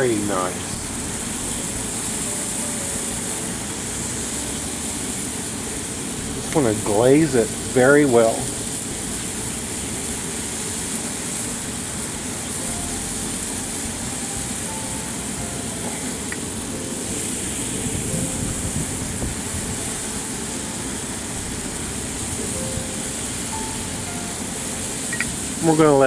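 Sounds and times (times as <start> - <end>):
gas grill burners hissing: 0.0 - 26.0.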